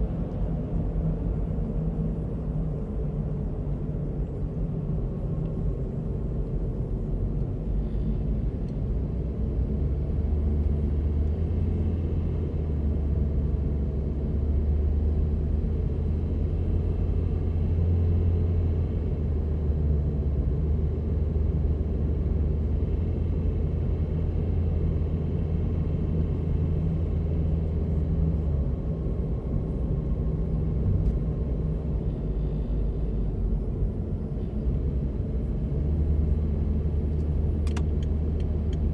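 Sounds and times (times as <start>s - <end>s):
car low rumble: 0.0s - 38.9s.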